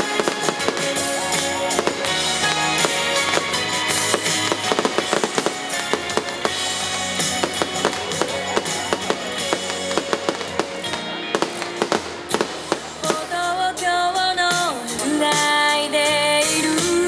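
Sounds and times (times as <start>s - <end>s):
fireworks popping and crackling: 0.0s - 14.7s
music: 0.0s - 17.0s.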